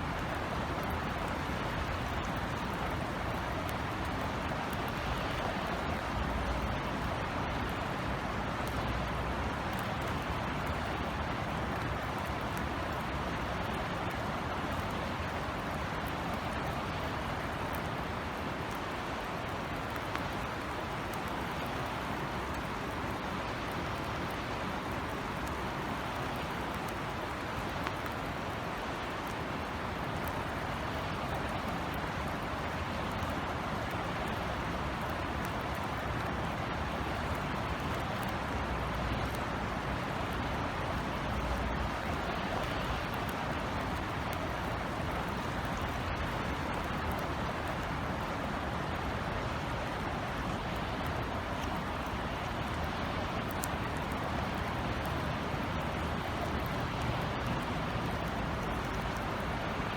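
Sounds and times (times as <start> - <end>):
faint raindrop ticks: 0.0 - 59.9
steady rain hiss: 0.0 - 59.9.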